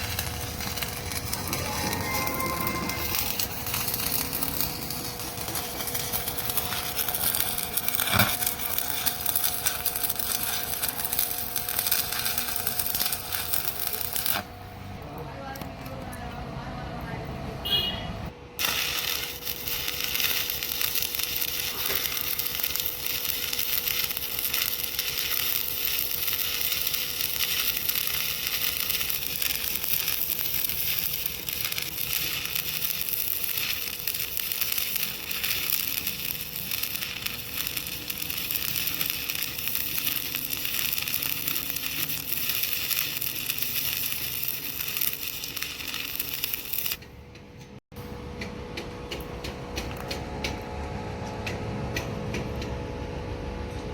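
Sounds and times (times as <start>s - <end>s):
welding arc crackling: 0.0s - 14.9s, 18.6s - 47.1s
constant hum: 0.0s - 53.9s.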